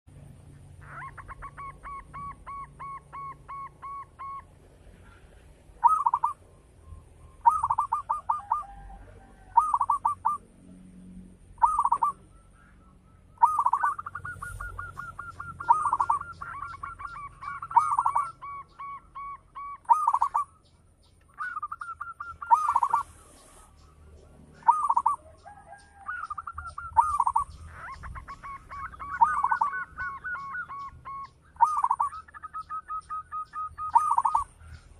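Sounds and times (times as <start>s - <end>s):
doves cooing: 0.6s - 20.6s, 21.3s - 34.9s.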